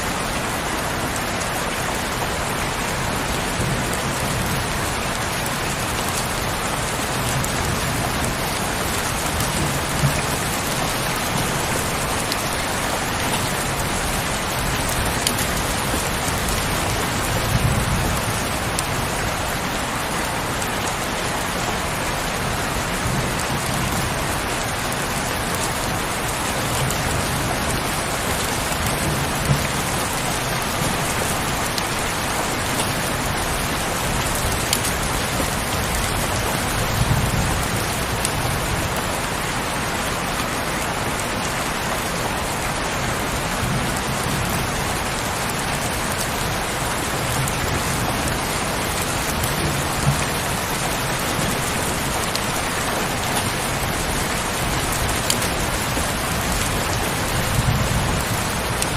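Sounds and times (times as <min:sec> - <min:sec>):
heavy rainfall: 0:00.0 - 0:58.9
louder raindrops: 0:00.0 - 0:58.9.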